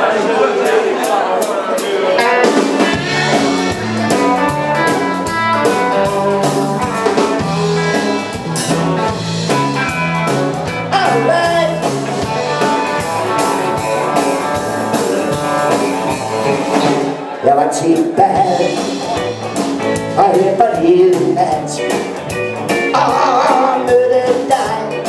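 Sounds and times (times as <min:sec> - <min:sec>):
rock band playing: 0:00.6 - 0:25.0.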